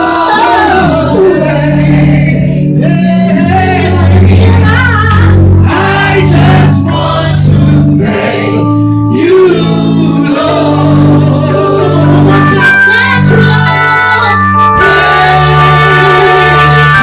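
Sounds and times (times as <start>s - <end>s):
choir singing gospel: 0.0s - 17.0s
organ chords: 0.0s - 17.0s
steady bass: 0.0s - 17.0s.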